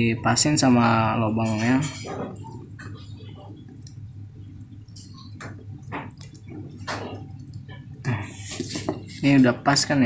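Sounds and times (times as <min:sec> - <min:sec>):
steady low hum: 0:00.0 - 0:10.0
cable handling rustles and ticks: 0:00.8 - 0:09.8.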